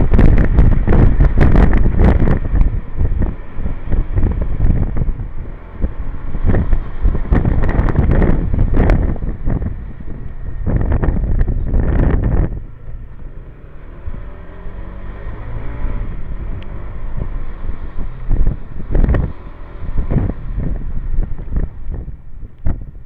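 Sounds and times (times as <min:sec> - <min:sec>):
motor scooter engine running: 0:00.0 - 0:22.9
wind buffeting microphone: 0:00.0 - 0:23.0.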